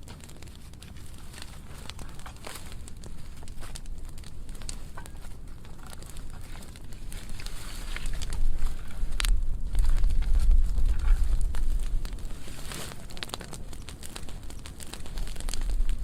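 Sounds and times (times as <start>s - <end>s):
deep rumble of flames: 0.0s - 16.0s
fire crackling with sharp pops: 0.0s - 16.0s.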